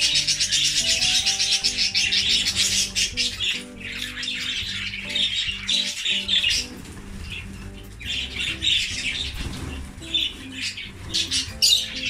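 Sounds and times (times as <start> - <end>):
background music: 0.0 - 12.0
budgerigars chirping: 0.0 - 12.0.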